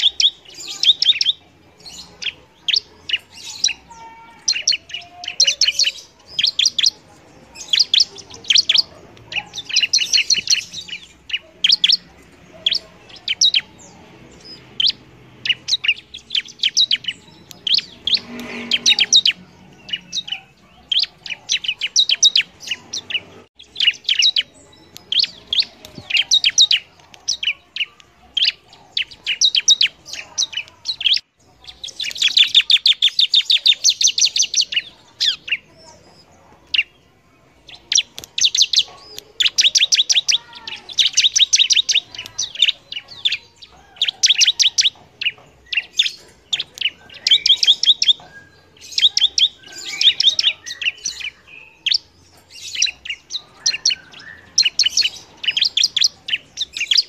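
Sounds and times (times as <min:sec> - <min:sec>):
bird chirping high-pitched: 0:00.0 - 0:57.0.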